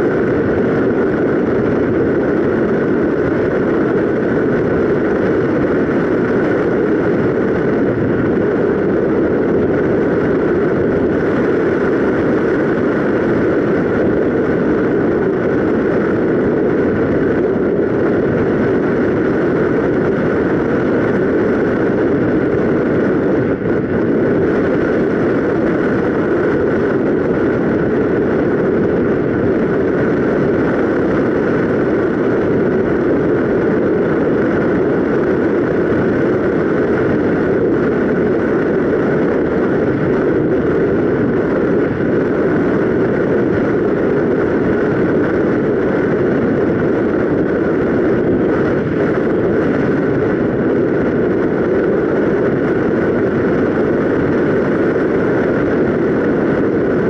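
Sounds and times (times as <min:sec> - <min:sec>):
airflow rushing over glider: 0:00.0 - 0:57.0
steady motor hum: 0:00.0 - 0:57.0.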